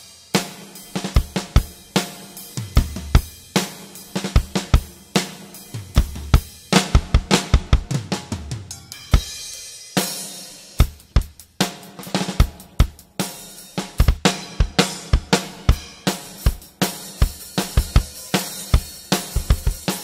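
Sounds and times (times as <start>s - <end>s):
drum kit playing fills: 0.0s - 20.0s.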